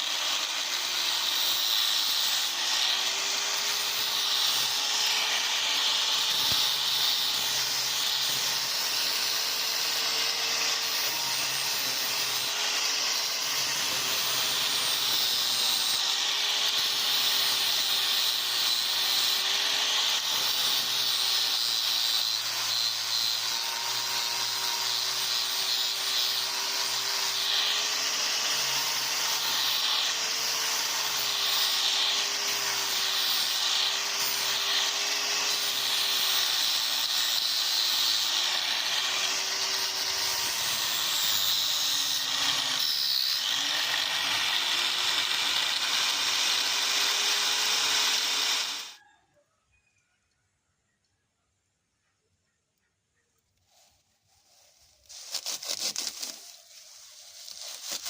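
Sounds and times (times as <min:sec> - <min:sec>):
electric power tool running: 0:00.0 - 0:49.0.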